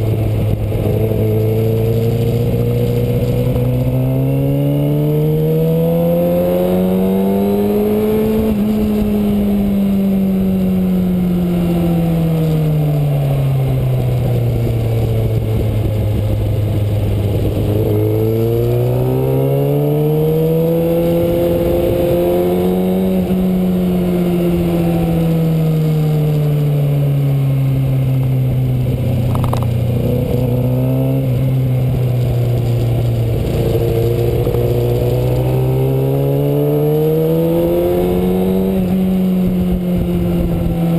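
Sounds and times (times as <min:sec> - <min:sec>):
motorcycle engine rising and falling: 0:00.0 - 0:40.9.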